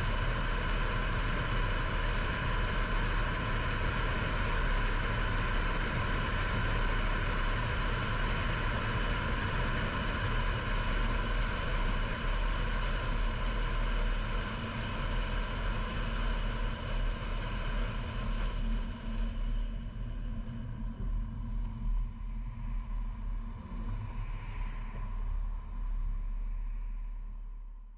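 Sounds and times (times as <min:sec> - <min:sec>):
car road and engine rumble: 0:00.0 - 0:27.9.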